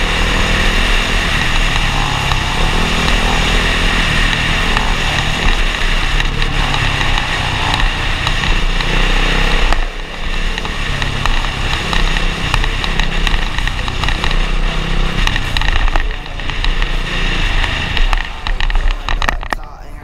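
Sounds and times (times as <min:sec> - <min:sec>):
dirt bike engine: 0:00.0 - 0:20.0.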